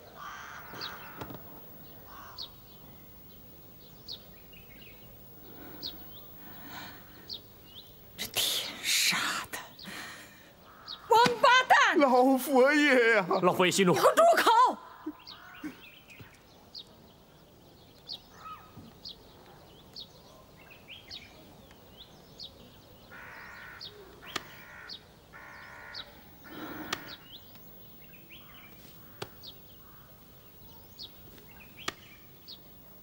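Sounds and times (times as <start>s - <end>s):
longer bird calls: 0.0s - 11.8s, 13.2s - 33.0s
faint birds chirping: 0.0s - 33.0s.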